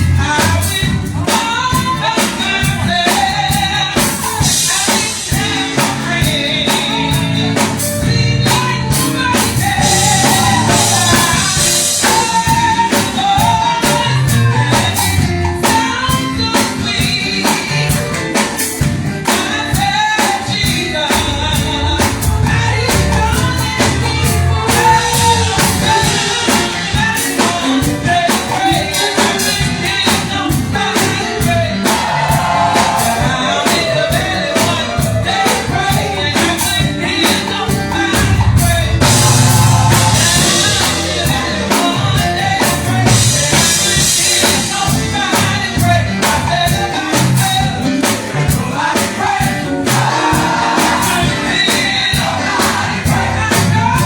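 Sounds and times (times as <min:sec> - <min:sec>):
band playing: 0:00.0 - 0:54.0
drum kit beat: 0:00.0 - 0:54.0
person singing gospel: 0:00.0 - 0:54.0.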